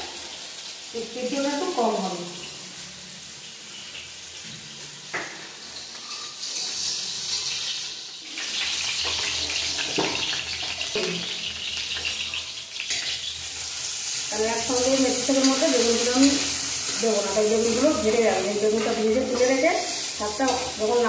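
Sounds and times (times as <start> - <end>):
eggplant sizzling in oil: 0.0 - 21.0.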